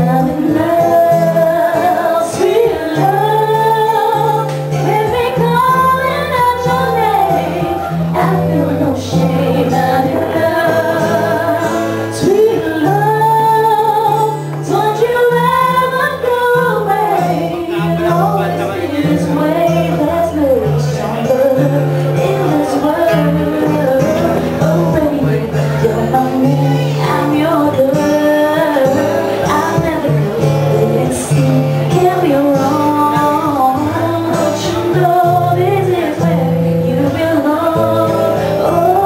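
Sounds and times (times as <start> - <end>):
woman singing slow melody: 0.0 - 39.0.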